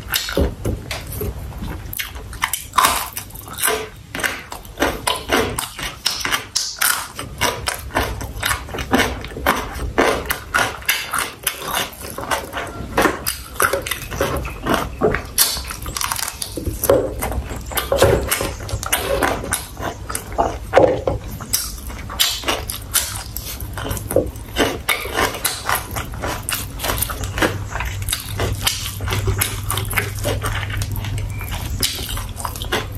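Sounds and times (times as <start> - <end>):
chewing and mouth sounds: 0.0 - 32.9.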